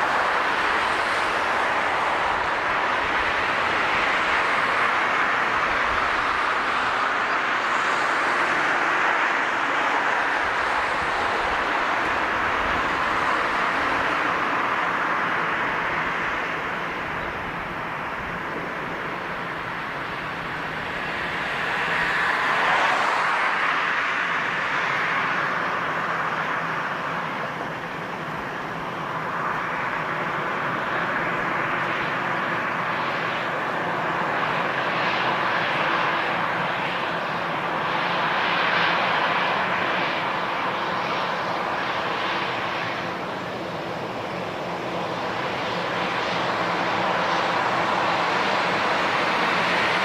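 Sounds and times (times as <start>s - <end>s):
jet airliner engines running: 0.0s - 50.0s.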